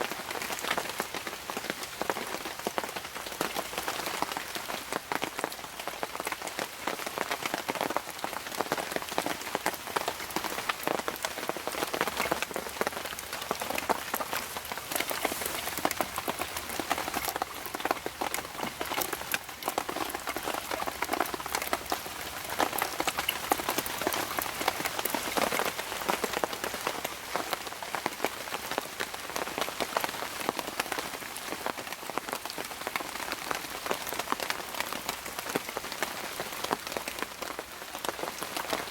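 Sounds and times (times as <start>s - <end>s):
raindrops ticking on surface: 0.0s - 38.9s
steady rain: 0.0s - 38.9s.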